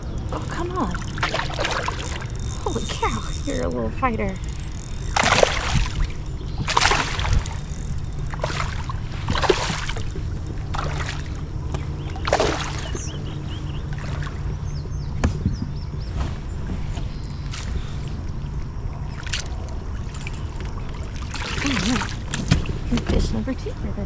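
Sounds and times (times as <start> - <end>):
fish splashing in water: 0.0 - 3.7, 4.4 - 14.6, 17.4 - 23.0
steady low rumble: 0.0 - 24.0.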